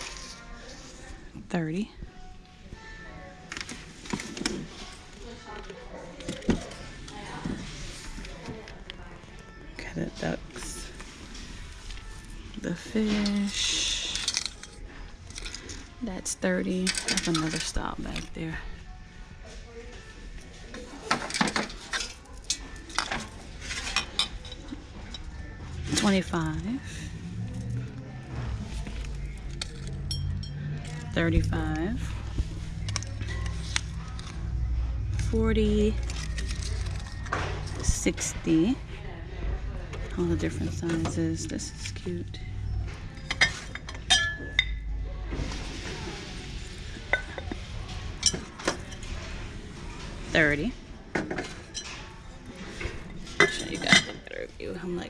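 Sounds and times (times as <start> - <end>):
hard decor items clinking: 2.2 - 18.9, 20.3 - 55.0.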